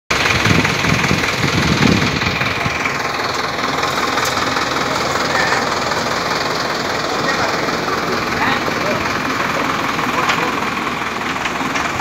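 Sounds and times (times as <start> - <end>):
tractor engine running: 0.1 - 12.0.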